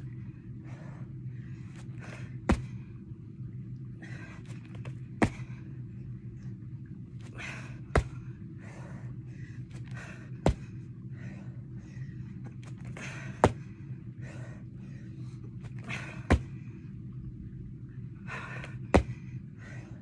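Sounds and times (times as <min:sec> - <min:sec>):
low steady hum: 0:00.0 - 0:20.0
woman breathing hard: 0:00.1 - 0:03.0, 0:04.0 - 0:05.9, 0:07.2 - 0:17.0, 0:18.2 - 0:20.0.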